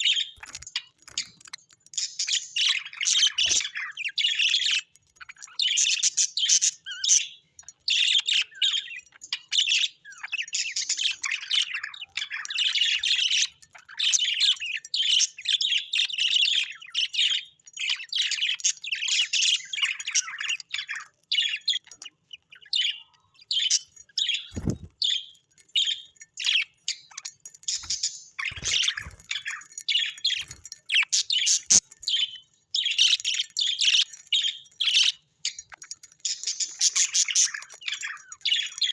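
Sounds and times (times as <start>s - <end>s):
parrots chirping and chattering: 0.0s - 38.9s.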